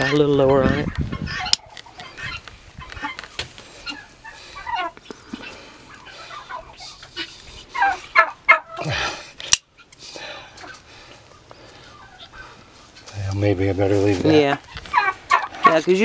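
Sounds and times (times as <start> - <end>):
fowl clucking and squawking: 0.0 - 9.0, 9.6 - 16.0.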